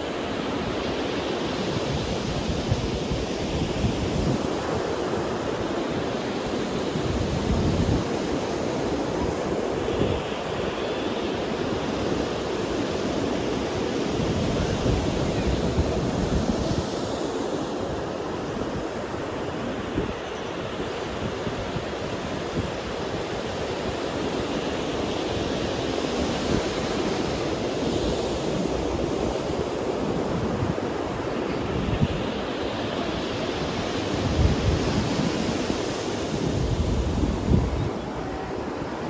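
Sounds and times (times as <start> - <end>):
waves breaking on beach: 0.0 - 39.0
wind rumbling on microphone: 1.4 - 10.8, 11.5 - 39.0.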